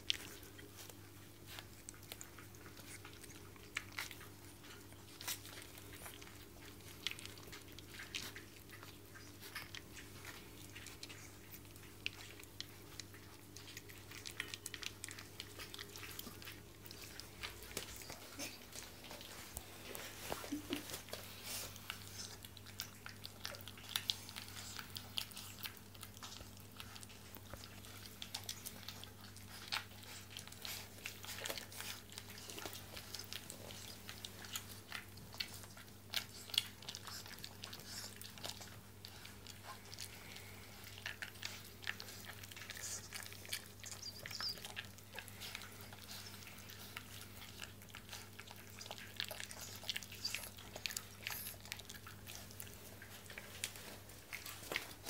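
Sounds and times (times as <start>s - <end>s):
low steady hum: 0.0s - 55.0s
puppy crunching kibble in metal bowl: 0.0s - 55.0s.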